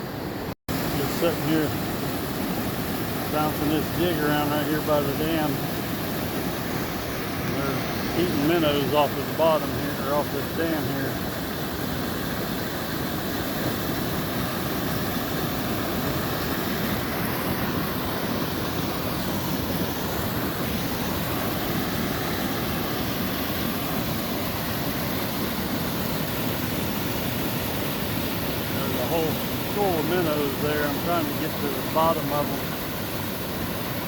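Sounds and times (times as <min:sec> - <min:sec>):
river water rushing over a dam: 0:00.1 - 0:34.0.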